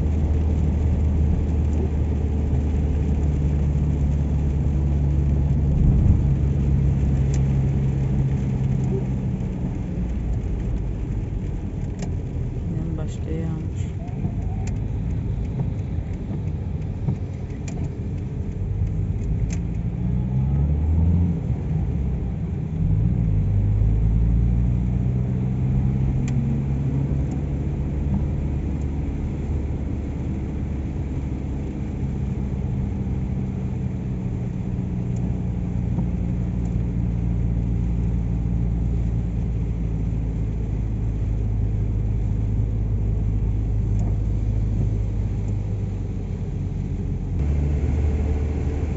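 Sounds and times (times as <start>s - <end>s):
car engine rumble: 0.0s - 48.9s
road noise: 0.0s - 48.9s.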